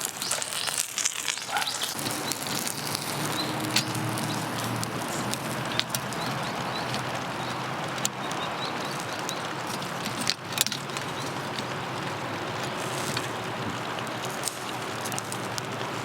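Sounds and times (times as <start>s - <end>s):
sharp clicks: 0.0s - 15.9s
rain hissing: 0.0s - 16.0s.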